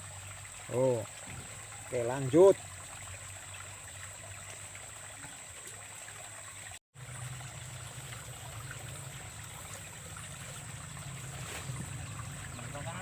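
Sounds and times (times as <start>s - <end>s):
water trickling in a ditch: 0.0s - 13.0s.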